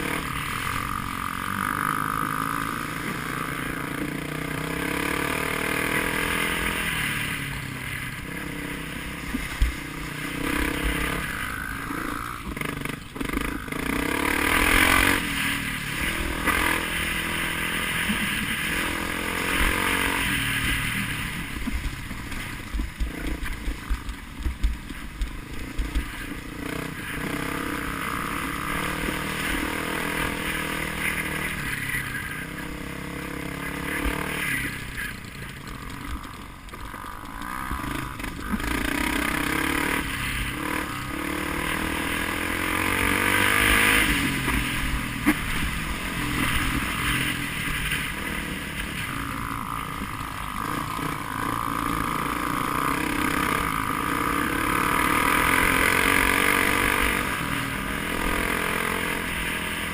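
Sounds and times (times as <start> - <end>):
road noise: 0.0 - 59.9
vehicle engine running: 0.0 - 59.9.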